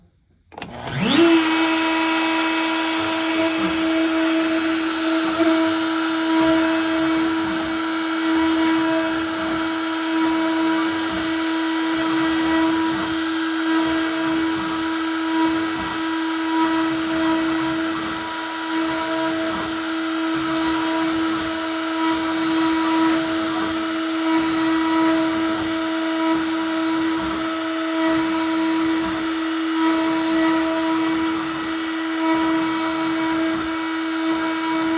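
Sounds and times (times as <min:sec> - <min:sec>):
cnc router spindle whine: 0:00.5 - 0:34.9.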